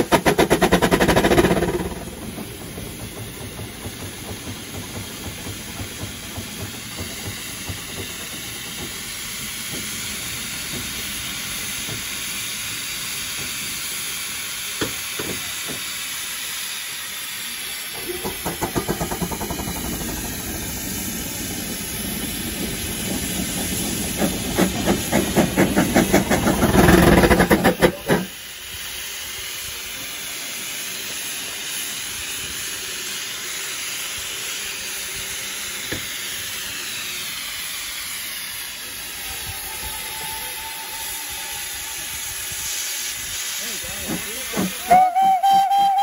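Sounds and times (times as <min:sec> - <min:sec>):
rhythmic steam exhaust beats: 0:00.0 - 0:46.0
steam hiss: 0:00.0 - 0:46.0.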